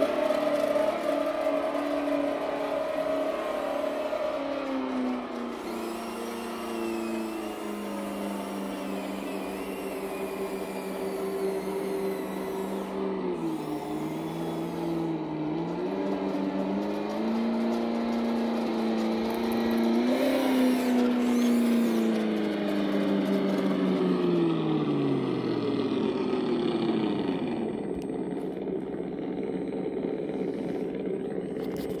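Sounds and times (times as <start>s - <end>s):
simulated tractor engine from speaker: 0.0s - 32.0s.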